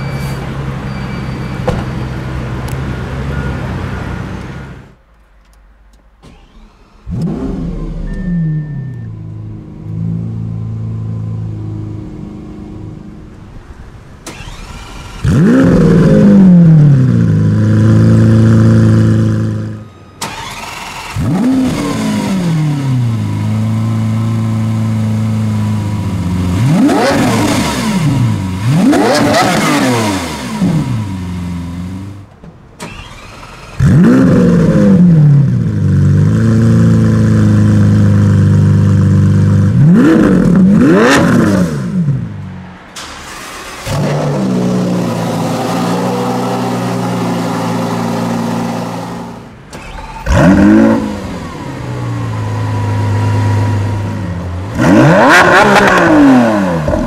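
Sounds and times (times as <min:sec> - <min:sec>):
car engine starting: 0:01.7 - 0:57.0
engine revving: 0:06.2 - 0:12.4, 0:14.2 - 0:32.2, 0:32.8 - 0:57.0.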